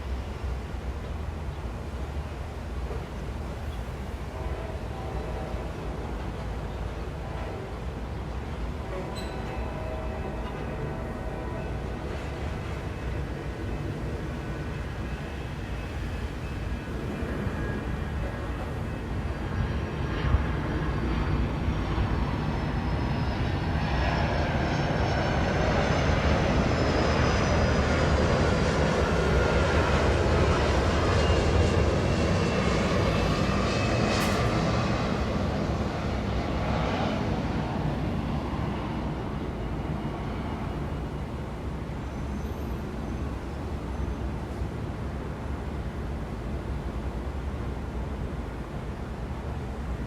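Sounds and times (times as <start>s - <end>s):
airplane passing overhead: 0.0s - 50.0s
low city traffic rumble: 0.0s - 50.0s.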